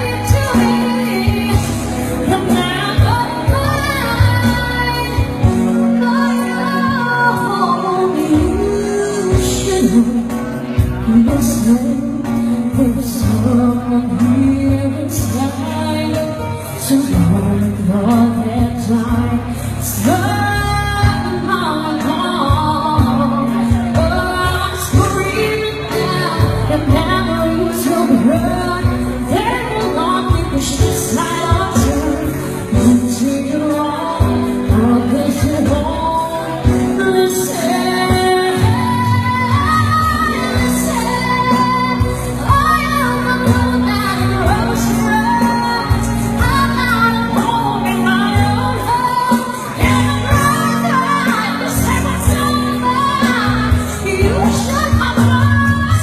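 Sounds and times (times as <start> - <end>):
instrumental accompaniment with beat: 0.0 - 56.0
person singing: 0.0 - 56.0.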